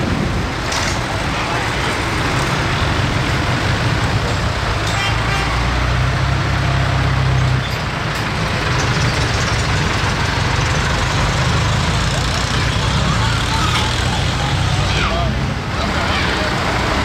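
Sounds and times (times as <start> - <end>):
road noise: 0.0 - 17.0
tractor engines passing: 0.0 - 17.0.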